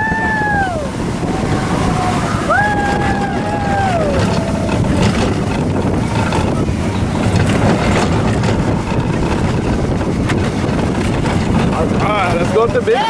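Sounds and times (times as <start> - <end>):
roller coaster rumbling on track: 0.0 - 13.0
wind buffeting microphone: 0.0 - 13.0.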